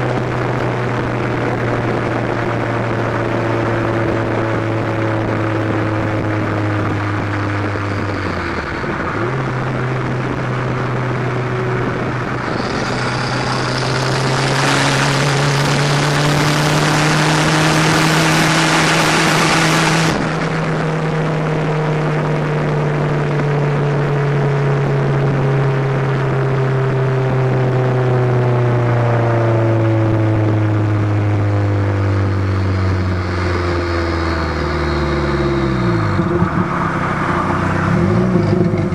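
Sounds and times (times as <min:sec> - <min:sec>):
car exhaust while driving: 0:00.0 - 0:38.9.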